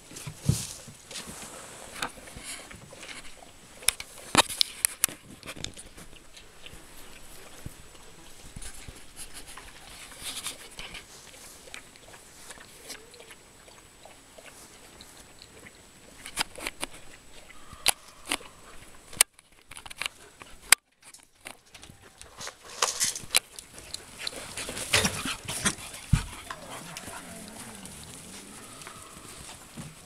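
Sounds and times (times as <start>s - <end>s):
puppies scuffling at play: 0.1s - 12.9s, 18.3s - 30.0s.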